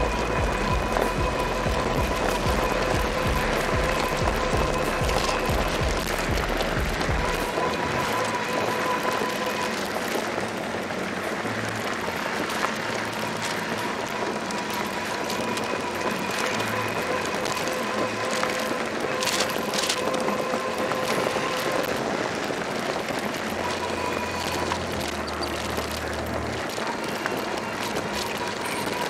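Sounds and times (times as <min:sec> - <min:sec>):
electric motor whine: 0:00.0 - 0:29.0
tyre and wind noise: 0:00.0 - 0:29.0.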